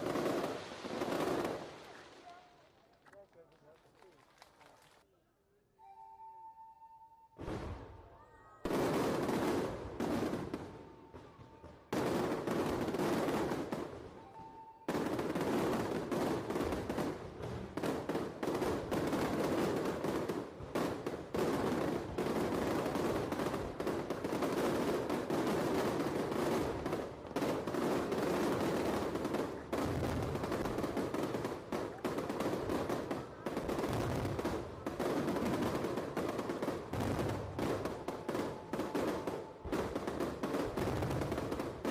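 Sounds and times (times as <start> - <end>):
fireworks bangs and crackles: 0.0 - 3.1, 8.6 - 41.9.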